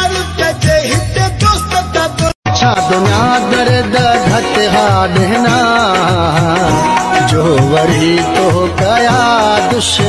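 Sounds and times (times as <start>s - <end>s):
folk song with rhythmic beat: 0.0s - 10.0s.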